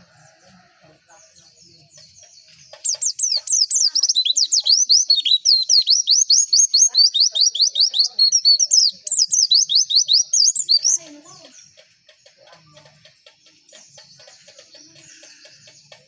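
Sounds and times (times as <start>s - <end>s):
small bird singing fast chirps: 1.2s - 16.0s.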